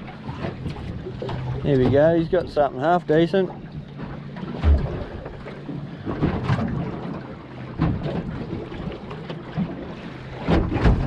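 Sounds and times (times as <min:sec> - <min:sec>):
water slapping against hull: 0:00.0 - 0:11.0.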